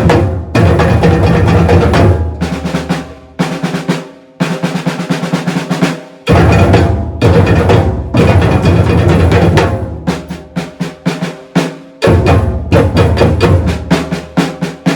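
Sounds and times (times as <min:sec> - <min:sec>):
percussion ensemble playing: 0:00.0 - 0:14.9.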